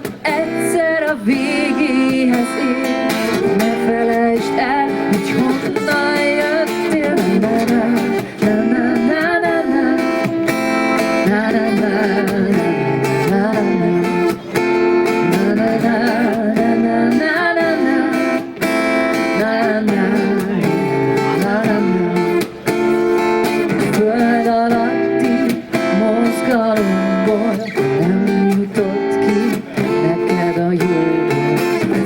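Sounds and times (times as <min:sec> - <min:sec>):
acoustic guitar strumming: 0:00.0 - 0:32.0
person singing wordless melody: 0:00.0 - 0:32.0.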